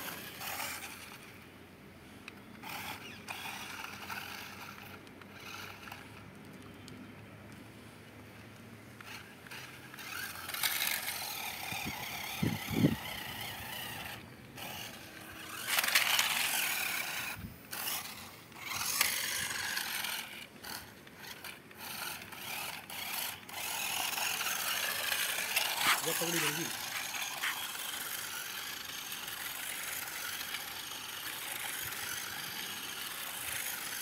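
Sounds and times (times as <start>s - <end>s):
toy electric motor whirring: 0.0s - 1.5s, 2.2s - 6.8s, 9.0s - 34.0s.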